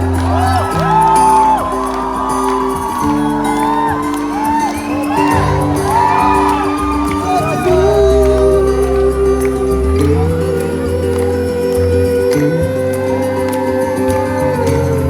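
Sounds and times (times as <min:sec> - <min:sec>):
crowd whooping: 0:00.0 - 0:12.3
live rock band playing: 0:00.0 - 0:13.6
person singing: 0:00.0 - 0:15.0.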